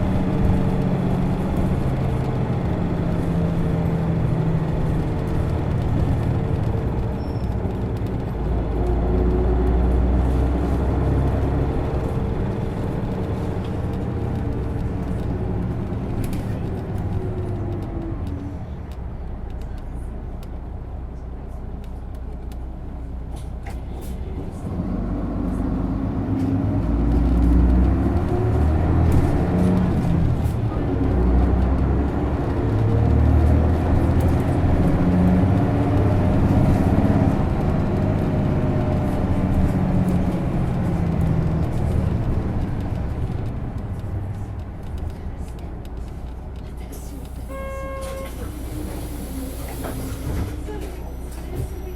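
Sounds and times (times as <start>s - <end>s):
bus diesel engine accelerating: 0.0s - 51.9s.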